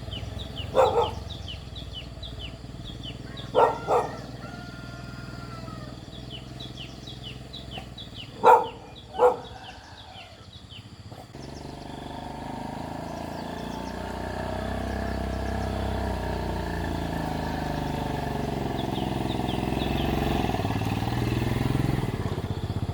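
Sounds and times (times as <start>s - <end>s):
faint bird chirps: 0.0s - 21.7s
motorcycle engine running: 0.0s - 22.9s.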